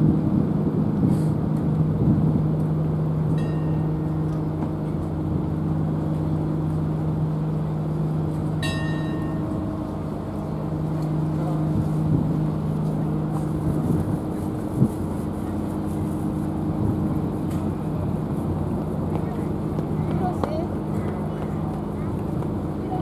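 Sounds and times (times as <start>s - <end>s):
ship machinery humming: 0.0s - 23.0s.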